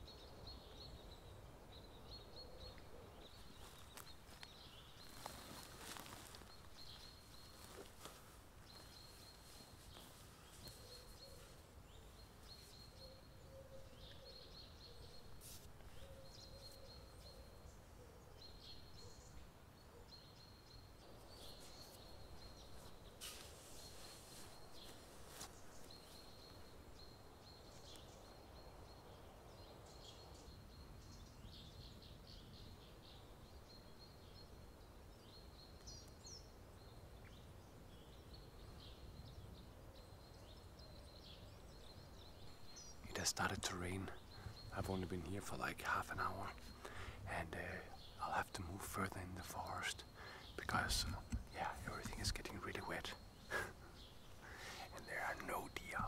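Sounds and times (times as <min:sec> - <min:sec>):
bird chirps: 0:00.0 - 0:56.0.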